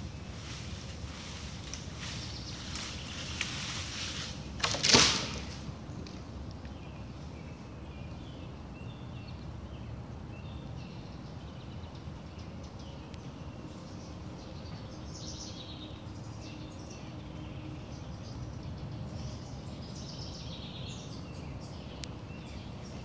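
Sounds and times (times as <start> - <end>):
low outdoor background noise: 0.0 - 23.0
small birds chirping: 0.0 - 23.0.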